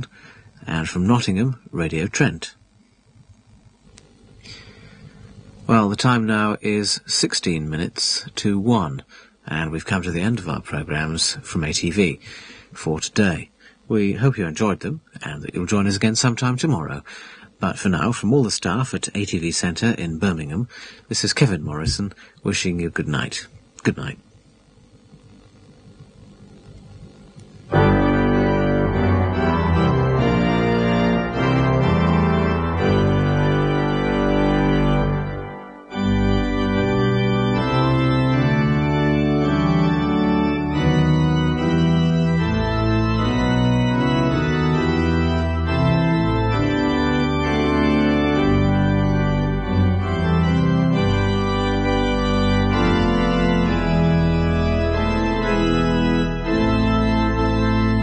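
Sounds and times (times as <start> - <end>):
organ music with held chords: 0.0 - 58.0.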